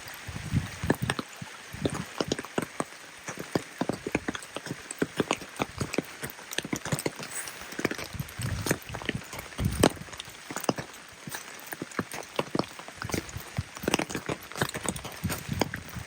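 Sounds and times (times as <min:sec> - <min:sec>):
rain hiss: 0:00.0 - 0:16.0
raindrops tapping hard surface: 0:00.0 - 0:16.0.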